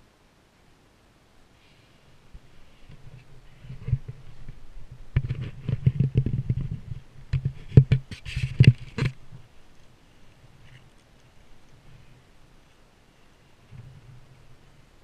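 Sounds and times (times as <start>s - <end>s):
rustling against camera: 2.1s - 15.0s.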